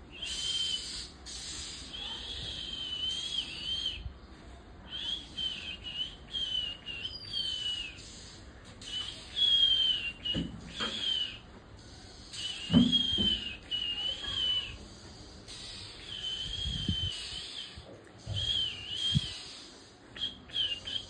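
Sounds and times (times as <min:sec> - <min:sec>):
bird singing whistled phrases: 0:00.1 - 0:04.1, 0:04.9 - 0:11.5, 0:12.2 - 0:14.8, 0:15.7 - 0:19.6, 0:20.2 - 0:21.0.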